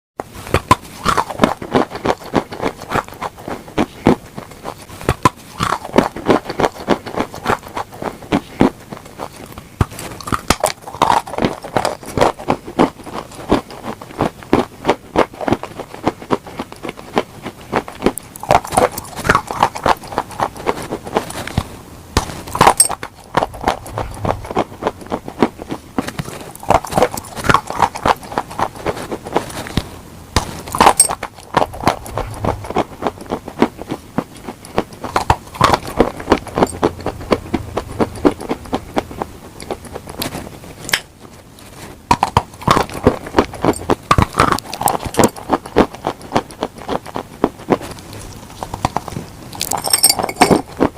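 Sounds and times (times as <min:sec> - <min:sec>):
chewing crunchy food: 0:00.2 - 0:50.9.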